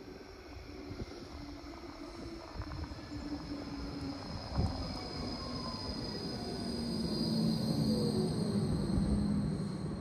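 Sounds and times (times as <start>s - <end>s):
tram electric drive whine: 0.0s - 10.0s.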